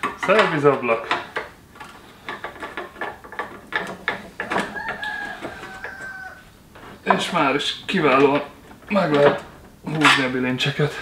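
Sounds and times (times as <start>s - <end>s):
metal clicking and clinking: 0.0s - 10.4s.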